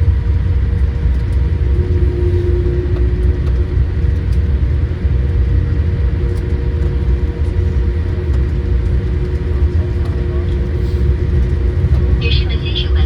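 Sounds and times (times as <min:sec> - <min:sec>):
aircraft wheels and engines rumbling: 0:00.0 - 0:13.0
constant cabin hum: 0:00.0 - 0:13.0.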